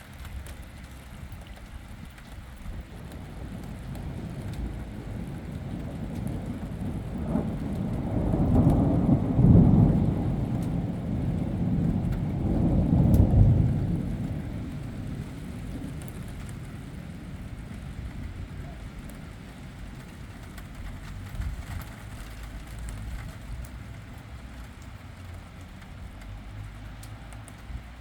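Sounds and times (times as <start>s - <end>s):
raindrop ticks: 0.0s - 28.0s
steady rain: 0.0s - 28.0s
thunder rumble: 0.0s - 28.0s.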